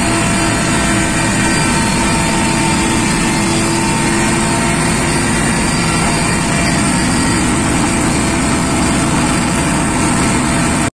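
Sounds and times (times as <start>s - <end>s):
helicopter engine and rotor: 0.0s - 10.9s
high-pitched whine: 0.0s - 10.9s.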